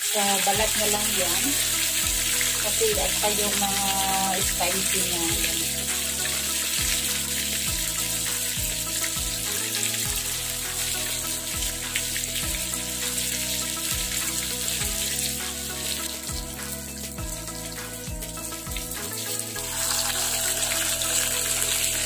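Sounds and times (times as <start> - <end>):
background music: 0.0 - 22.0
fish sizzling in hot oil: 0.0 - 22.0.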